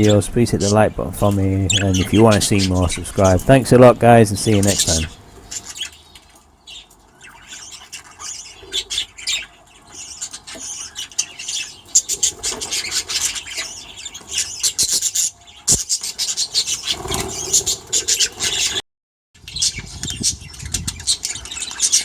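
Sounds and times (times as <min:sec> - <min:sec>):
budgerigars chattering: 0:00.0 - 0:18.8, 0:19.4 - 0:22.0.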